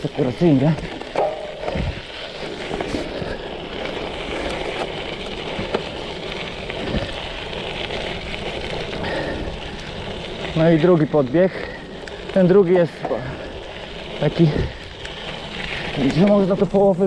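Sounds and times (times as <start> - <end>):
bike tyres rolling on gravel: 0.0 - 17.0.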